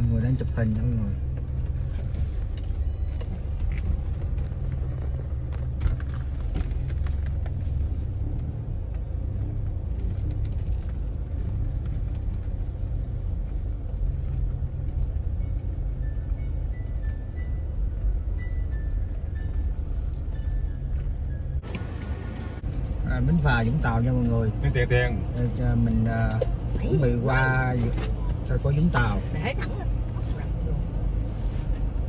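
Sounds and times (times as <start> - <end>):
vehicle low rumble: 0.0 - 32.0.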